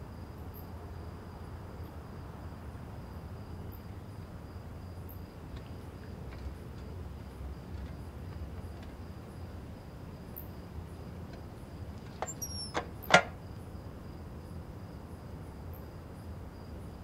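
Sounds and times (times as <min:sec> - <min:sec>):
crickets trilling: 0:00.0 - 0:17.0
low night ambience rumble: 0:00.0 - 0:17.0.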